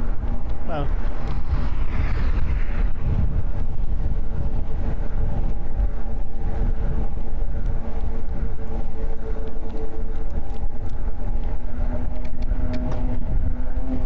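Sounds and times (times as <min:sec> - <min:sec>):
electric motor whine: 0:00.0 - 0:14.0
wind rumble on microphone: 0:00.0 - 0:14.0.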